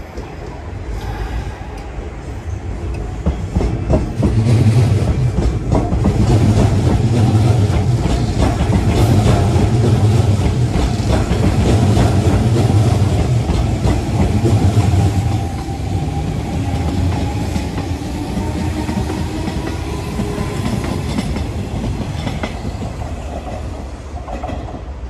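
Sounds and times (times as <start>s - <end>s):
electric train rumbling past: 0.0s - 25.0s.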